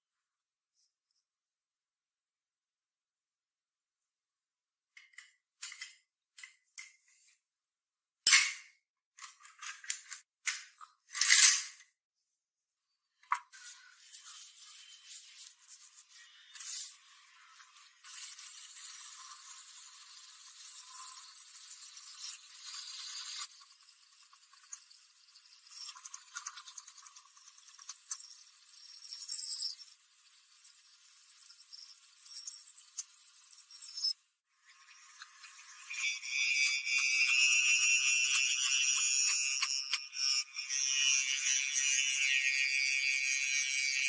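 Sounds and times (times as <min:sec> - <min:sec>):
handwork clicks and scrapes: 0:05.0 - 0:07.2, 0:09.2 - 0:11.9, 0:13.3 - 0:44.0.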